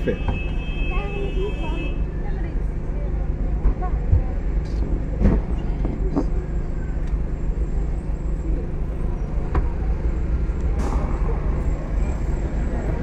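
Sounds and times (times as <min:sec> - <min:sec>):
bus engine humming: 0:00.0 - 0:13.0
street traffic: 0:00.0 - 0:13.0.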